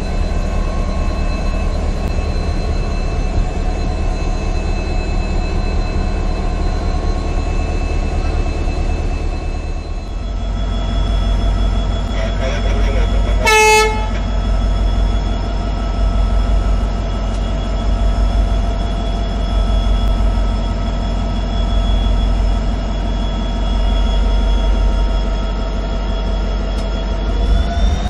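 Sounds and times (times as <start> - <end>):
diesel locomotive low rumble: 0.0 - 28.0
steady whine: 0.0 - 28.0.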